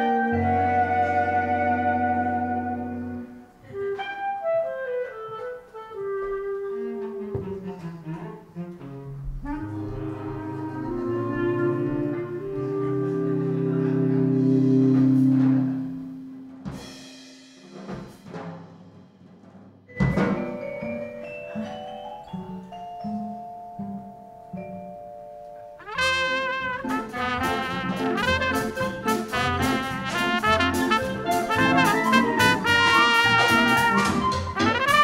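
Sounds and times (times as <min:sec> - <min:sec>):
jazz ensemble music: 0:00.0 - 0:35.0.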